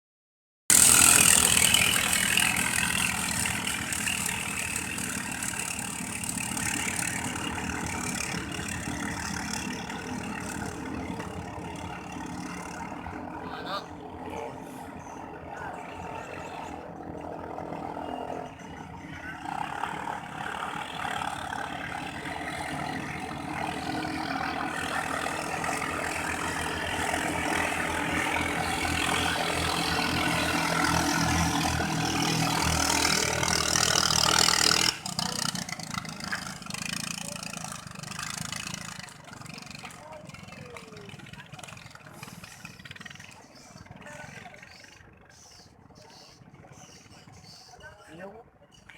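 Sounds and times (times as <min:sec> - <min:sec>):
boat engine running: 0:00.7 - 0:48.9.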